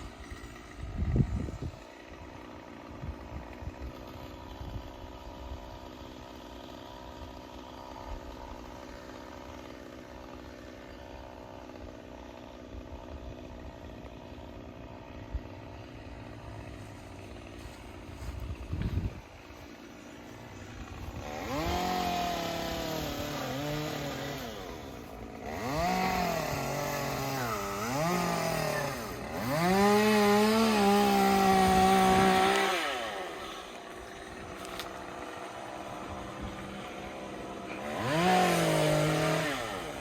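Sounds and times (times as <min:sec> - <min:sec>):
chainsaw engine idling: 0:00.0 - 0:40.0.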